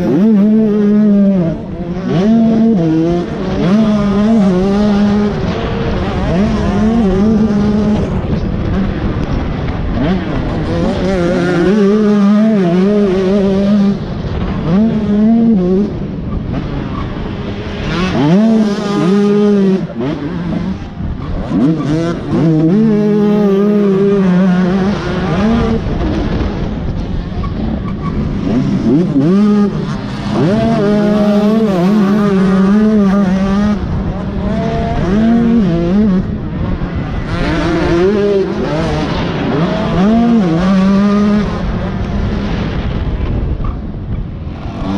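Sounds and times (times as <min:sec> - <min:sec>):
dirt bike engine revving: 0:00.0 - 0:44.9
wind noise: 0:00.0 - 0:44.9.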